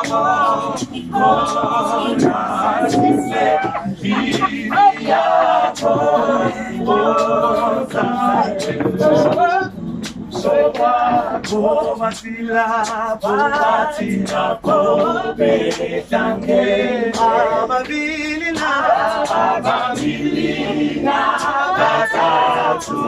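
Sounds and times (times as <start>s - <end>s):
hand claps: 0.0s - 16.3s, 17.1s - 23.0s
group singing unaccompanied: 0.0s - 23.0s.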